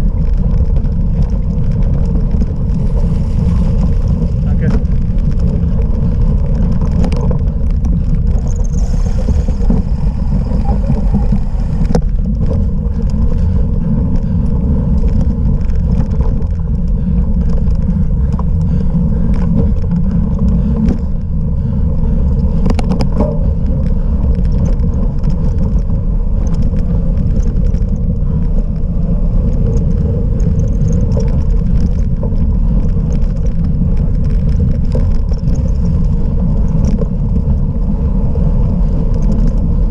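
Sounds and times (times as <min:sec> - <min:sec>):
bike clicks and rattles: 0:00.0 - 0:39.9
bike tyres rumbling: 0:00.0 - 0:39.9
wind on microphone: 0:00.0 - 0:39.9.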